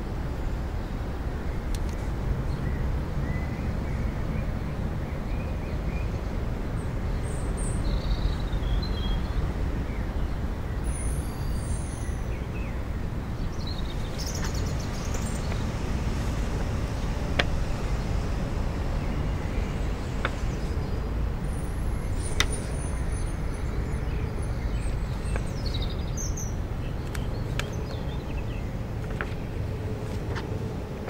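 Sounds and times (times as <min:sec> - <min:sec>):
distant traffic rumble: 0:00.0 - 0:31.0.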